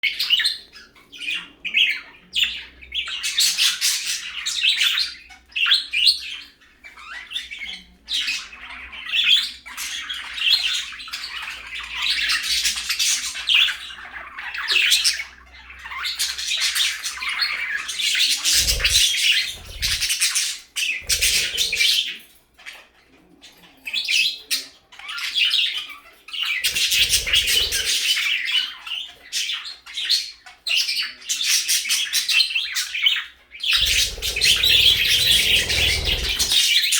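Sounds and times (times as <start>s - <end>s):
budgerigars chattering and squawking: 0.0s - 36.9s.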